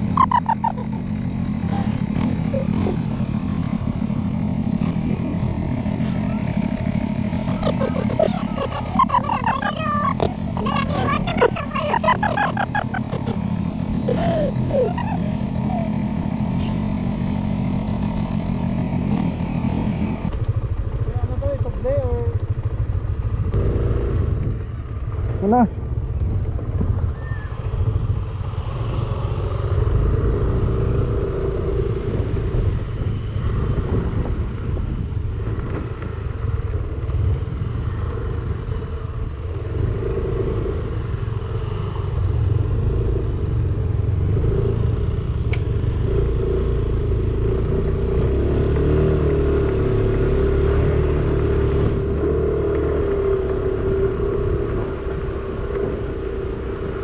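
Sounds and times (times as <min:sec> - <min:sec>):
scooter engine droning: 0:00.0 - 0:57.0.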